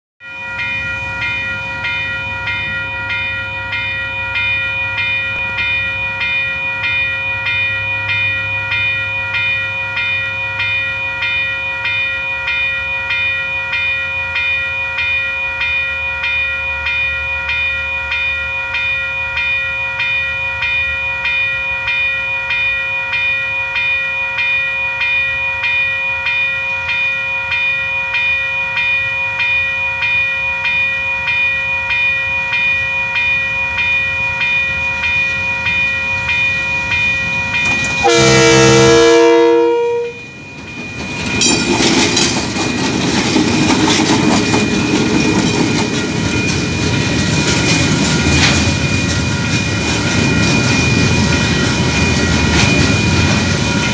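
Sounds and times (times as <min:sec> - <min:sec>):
level crossing warning bell: 0:00.2 - 0:53.9.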